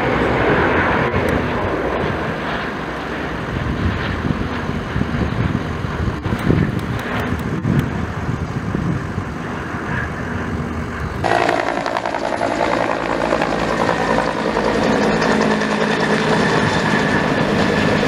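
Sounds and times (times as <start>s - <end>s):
helicopter rotor chop: 0.0s - 18.0s
turbine whine: 0.0s - 18.0s
wind noise: 0.0s - 18.0s.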